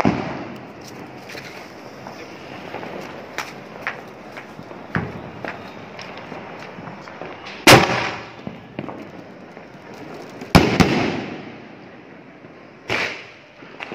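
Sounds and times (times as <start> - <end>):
firework bangs: 0.0 - 13.9
firework crack: 0.0 - 13.9.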